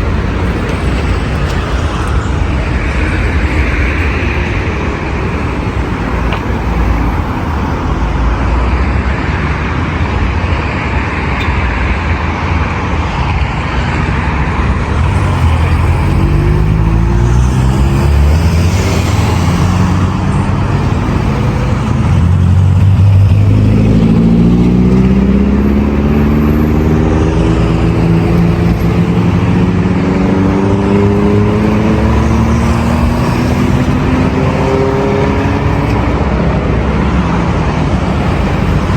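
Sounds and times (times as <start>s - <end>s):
traffic roar with tyre noise: 0.0s - 38.9s
vehicle engines accelerating: 0.0s - 38.9s.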